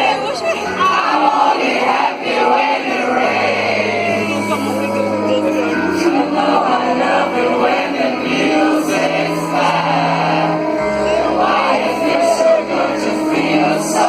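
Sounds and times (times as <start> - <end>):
live rock music with singing: 0.0 - 14.0.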